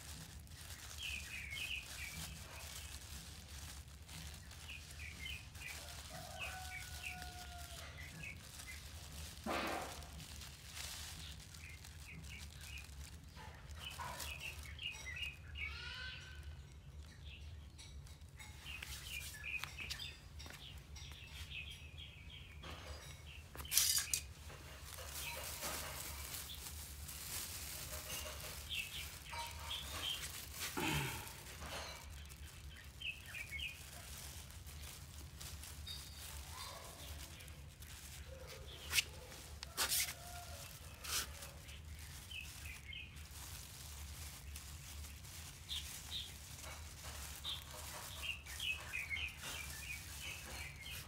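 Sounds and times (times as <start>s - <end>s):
plastic bags rustling: 0.0s - 51.0s
small birds chirping: 0.0s - 51.0s.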